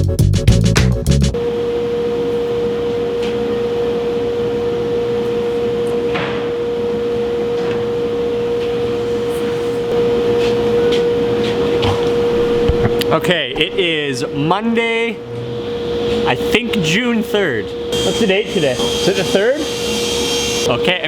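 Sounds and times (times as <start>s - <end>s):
mechanical hum with high tone: 1.4s - 21.0s.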